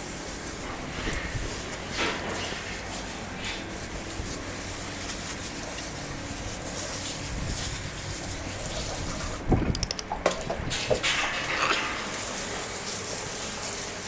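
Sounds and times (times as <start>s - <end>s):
water hose spraying: 0.2s - 14.0s.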